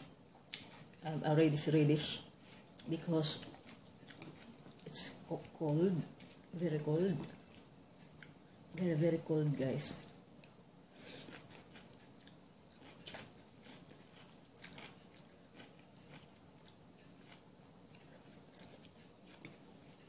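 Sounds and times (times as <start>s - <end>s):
person chewing food: 2.4s - 8.9s, 10.4s - 20.0s.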